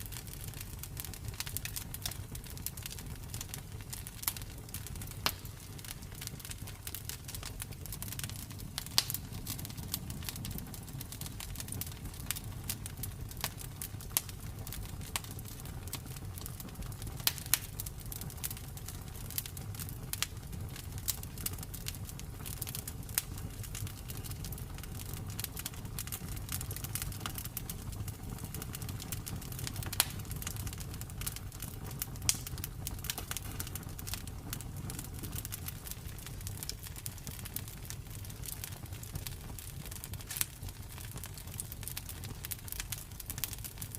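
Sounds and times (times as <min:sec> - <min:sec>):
campfire crackling and popping: 0:00.0 - 0:43.9
low rumble of flames: 0:00.0 - 0:43.9.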